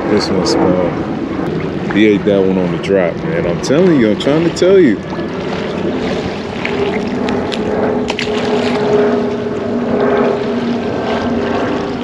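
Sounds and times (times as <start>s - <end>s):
motor droning: 0.0s - 12.0s
wind on microphone: 0.0s - 12.0s.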